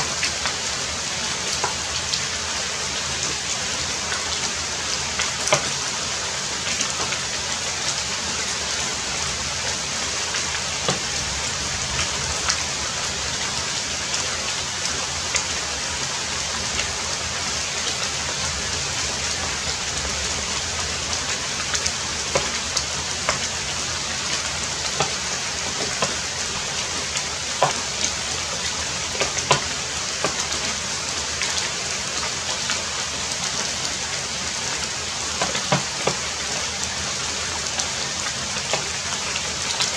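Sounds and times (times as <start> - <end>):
heavy rain falling: 0.0 - 39.9
raindrops tapping: 3.1 - 15.8, 16.5 - 39.9.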